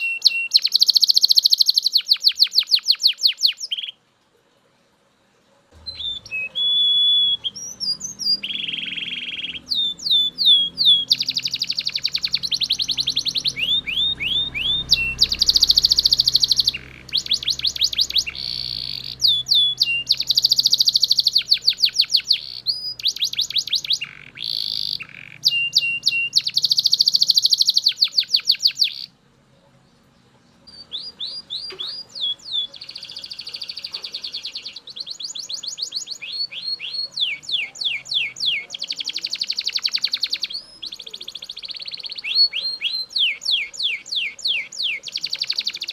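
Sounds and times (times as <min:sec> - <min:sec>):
canary singing trills: 0:00.0 - 0:04.0, 0:05.7 - 0:45.9.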